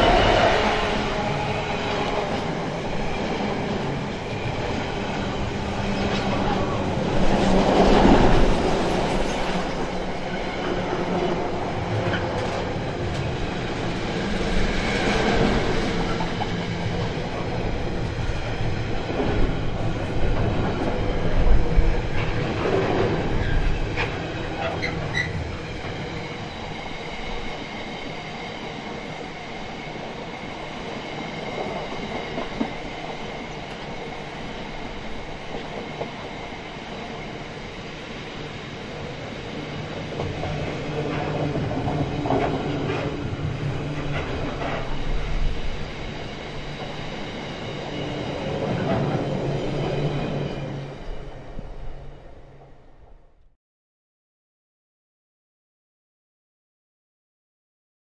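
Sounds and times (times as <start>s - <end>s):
freight train wagons rumbling: 0.0s - 29.1s, 30.0s - 52.8s.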